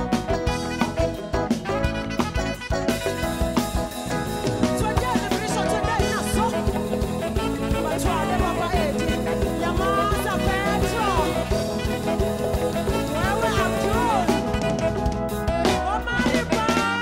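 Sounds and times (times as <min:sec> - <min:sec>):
music with steady beat: 0:00.0 - 0:16.7.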